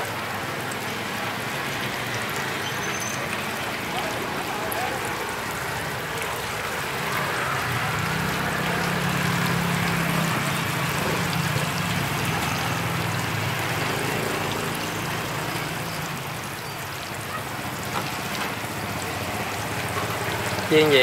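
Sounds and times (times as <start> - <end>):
oil sizzling and bubbling: 0.0 - 21.0.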